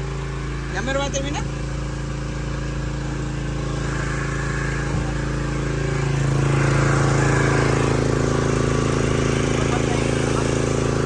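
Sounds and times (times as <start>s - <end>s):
pressure washer engine running: 0.0s - 11.0s.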